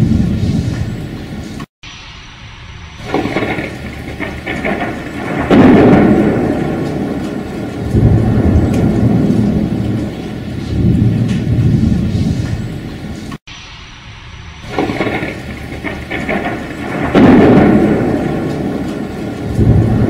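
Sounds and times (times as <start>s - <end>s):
thunder rolling: 0.0s - 20.0s
steady rain: 2.0s - 20.0s.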